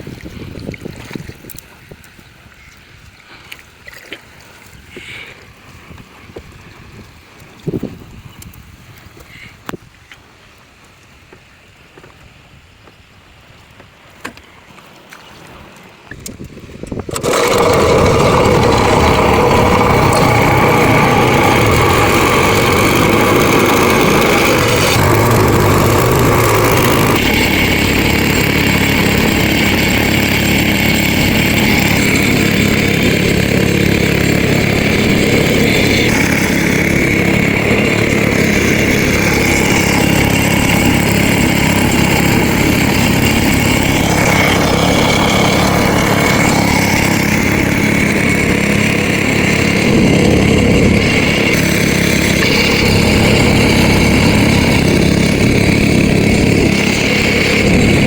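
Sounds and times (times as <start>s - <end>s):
small engine running: 3.3s - 8.6s, 16.1s - 58.0s.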